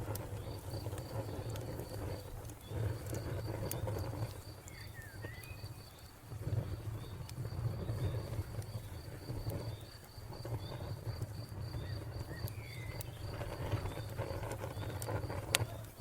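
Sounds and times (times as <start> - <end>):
low fire rumble: 0.0 - 16.0
wood fire crackling and popping: 0.0 - 16.0
crickets chirping: 0.3 - 16.0.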